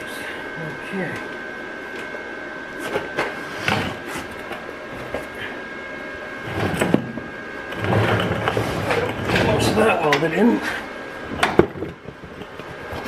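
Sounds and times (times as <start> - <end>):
faint high whine: 0.0 - 11.9.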